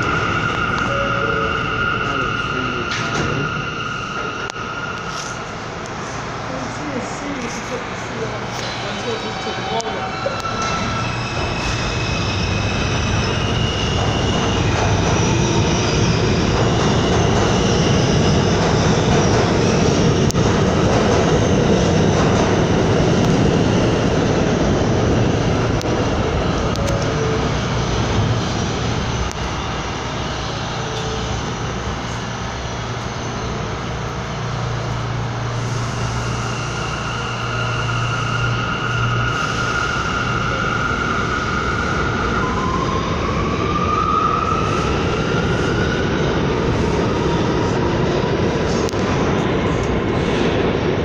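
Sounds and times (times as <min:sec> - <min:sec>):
subway train rumbling: 0:00.0 - 0:51.0.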